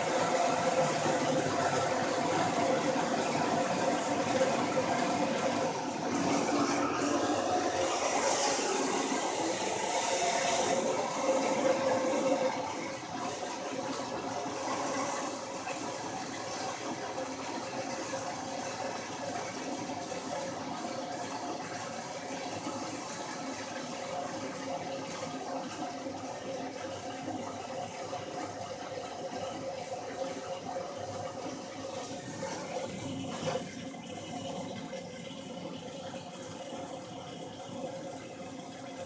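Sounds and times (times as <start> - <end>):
water sloshing in a washing tub: 0.0 - 39.0.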